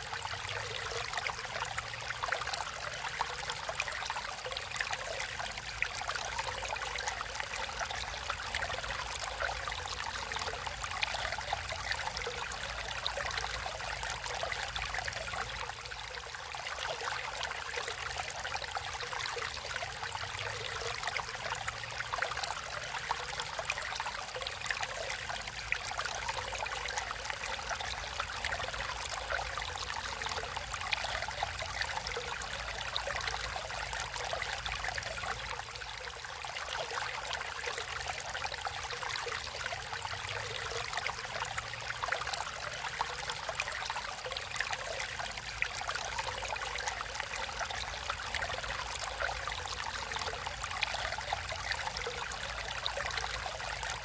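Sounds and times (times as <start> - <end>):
water trickling over rocks: 0.0 - 54.0.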